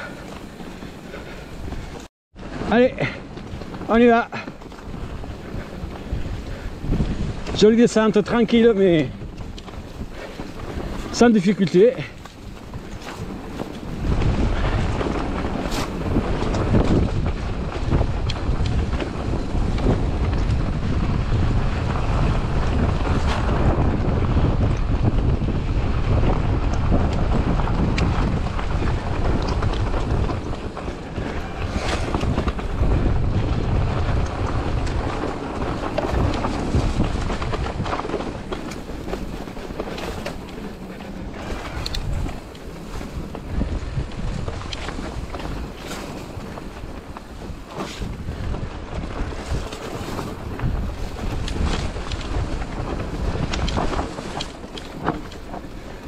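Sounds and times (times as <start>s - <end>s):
bike rattling over rocks: 0.0s - 56.0s
bike tyres rumbling on stony trail: 0.0s - 56.0s
wind buffeting microphone: 0.0s - 56.0s.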